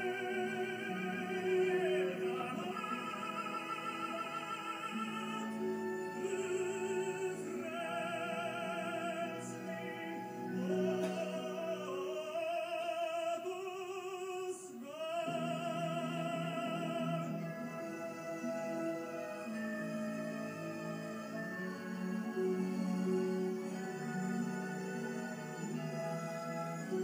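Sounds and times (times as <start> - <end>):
operatic singing with vibrato: 0.0 - 27.0
orchestral accompaniment: 0.0 - 27.0.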